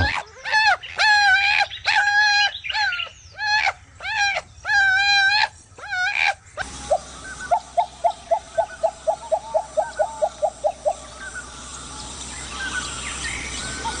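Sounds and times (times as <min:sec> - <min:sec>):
faint bird chirps: 0:01.6 - 0:14.0.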